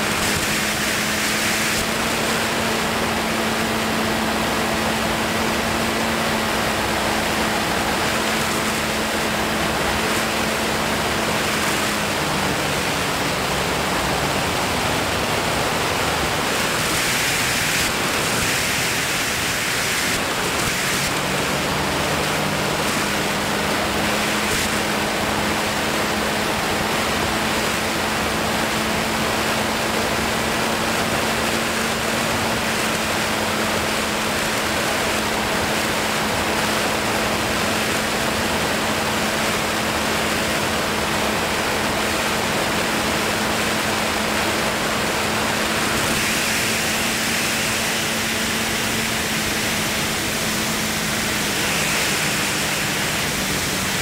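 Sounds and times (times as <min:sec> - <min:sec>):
airflow rushing over microphone: 0:00.0 - 0:54.0.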